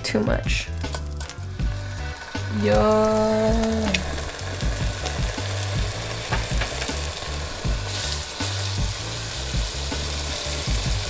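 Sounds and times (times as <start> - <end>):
steaks sizzling in oil: 0.7 - 11.0.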